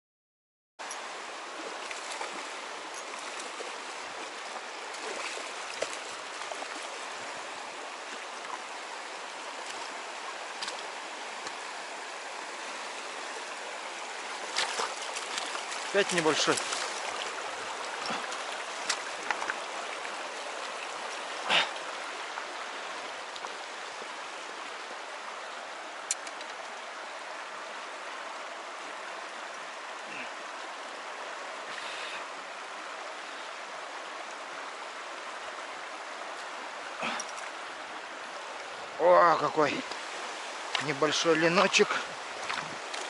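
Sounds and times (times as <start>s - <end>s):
river rushing over pebbles: 0.8s - 43.0s.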